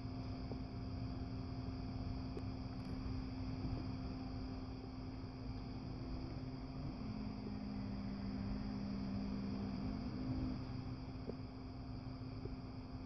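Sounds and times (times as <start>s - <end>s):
electric motors humming: 0.0s - 13.0s.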